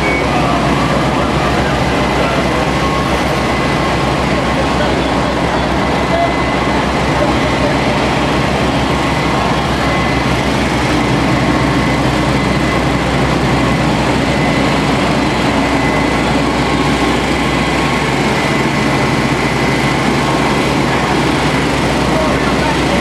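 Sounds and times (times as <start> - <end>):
fire truck engine drone: 0.0 - 23.0.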